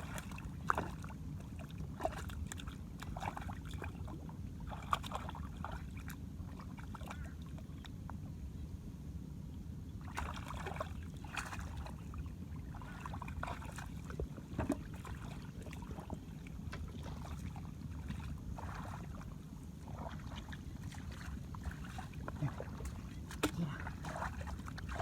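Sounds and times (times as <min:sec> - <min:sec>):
water sloshing and splashing: 0:00.0 - 0:08.2, 0:10.0 - 0:25.0
wind rumble on microphone: 0:00.0 - 0:25.0.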